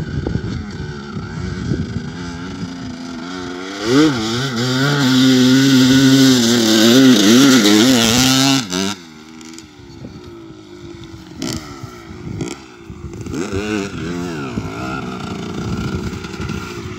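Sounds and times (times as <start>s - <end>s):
dirt bike engine revving: 0.0s - 16.9s.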